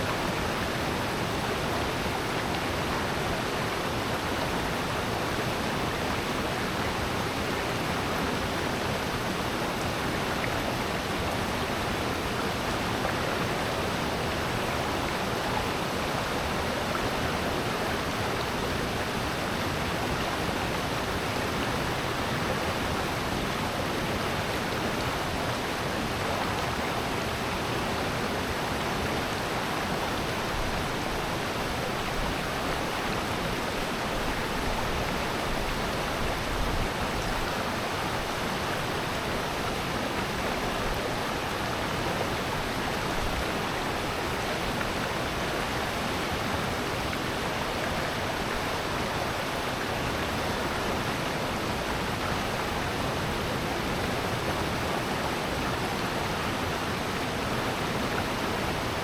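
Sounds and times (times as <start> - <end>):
water rushing down stream: 0.0 - 59.0.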